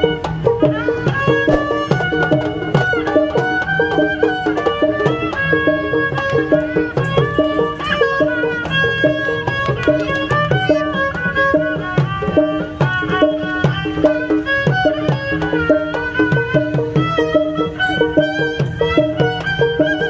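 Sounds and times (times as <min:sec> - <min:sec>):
hand drums: 0:00.0 - 0:20.0.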